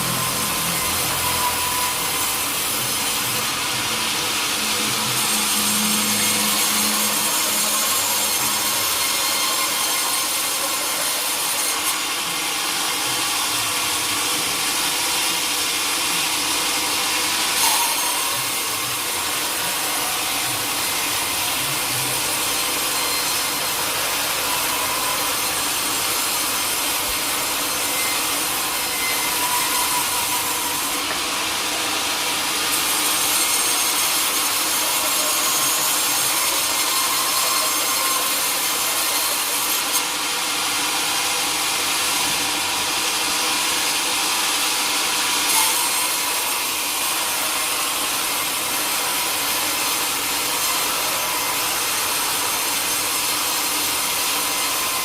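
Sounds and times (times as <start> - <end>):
saw blade cutting log: 0.0 - 55.0.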